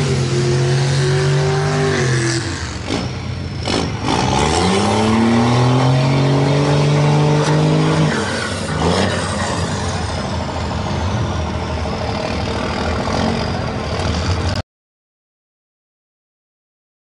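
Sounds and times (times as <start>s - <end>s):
diesel truck engine revving: 0.0s - 14.6s.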